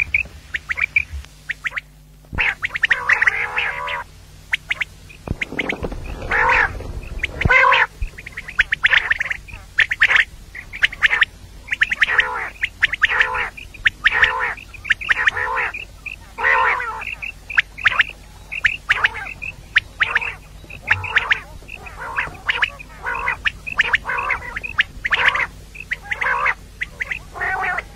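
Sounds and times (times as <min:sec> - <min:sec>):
quail nasal calls: 0:00.0 - 0:27.9.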